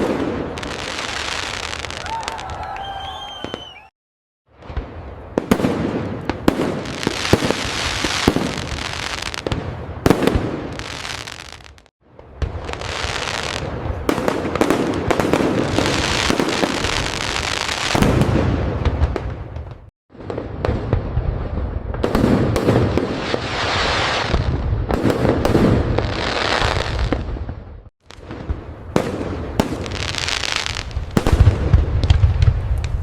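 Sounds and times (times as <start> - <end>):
fireworks bangs and crackling: 0.0 - 3.9, 4.5 - 33.0.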